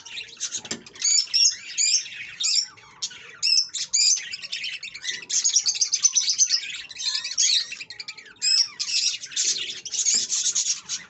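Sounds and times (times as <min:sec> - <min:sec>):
birds chirping and chattering: 0:00.0 - 0:11.0.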